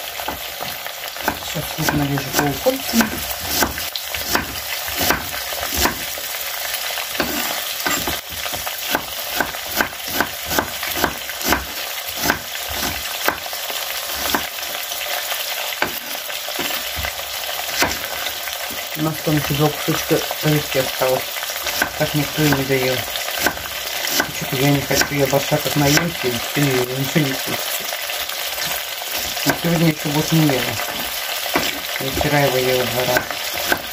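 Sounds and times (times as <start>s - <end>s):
chicken wings sizzling in a pan: 0.0s - 33.9s.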